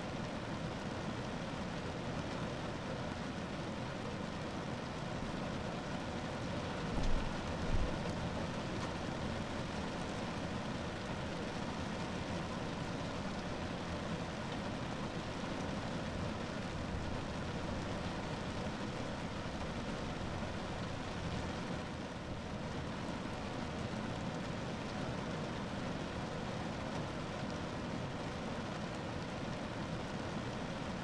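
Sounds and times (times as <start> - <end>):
rain on a car roof: 0.0 - 31.0.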